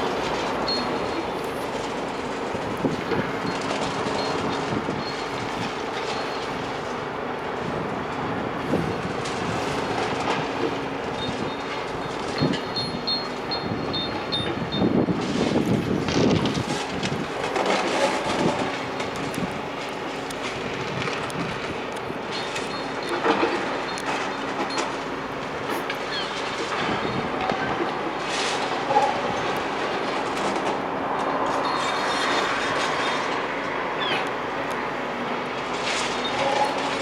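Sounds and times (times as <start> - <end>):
diesel engine running: 0.0 - 37.0
masonry and rubble crunching: 0.0 - 37.0.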